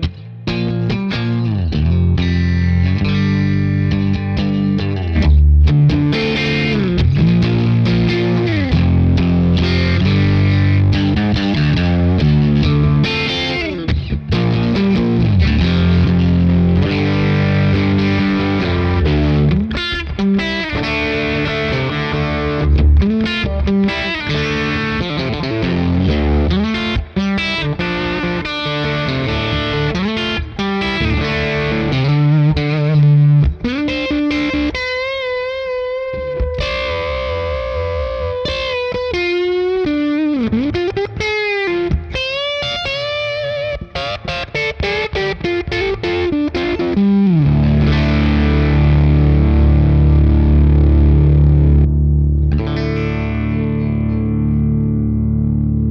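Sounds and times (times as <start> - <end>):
electric guitar playing: 0.0 - 55.9.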